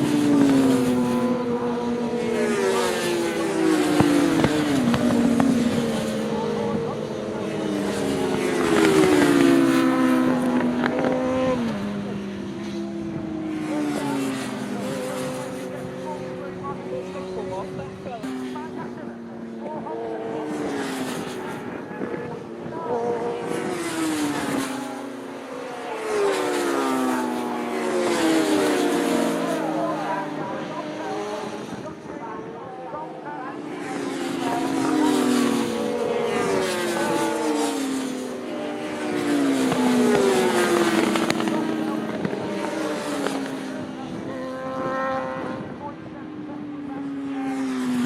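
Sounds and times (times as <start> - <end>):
racing motorcycles passing: 0.0 - 48.0.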